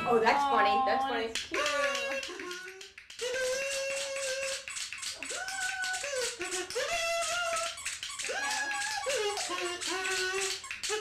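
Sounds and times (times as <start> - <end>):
quick percussive rhythm: 1.1 - 11.0.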